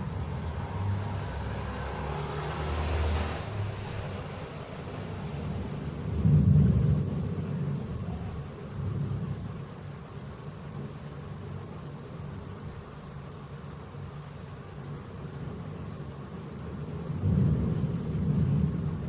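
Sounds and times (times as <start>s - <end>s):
thunder rumbling: 0.0s - 11.7s, 15.4s - 19.0s.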